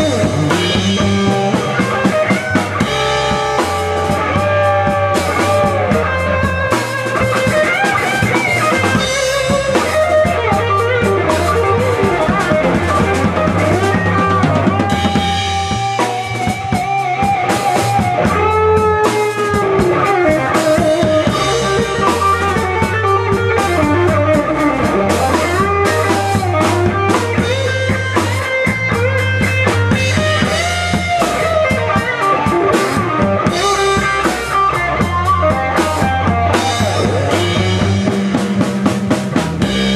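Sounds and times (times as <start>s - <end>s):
blues-rock band playing: 0.0s - 39.9s
lead guitar bending notes: 0.0s - 39.9s.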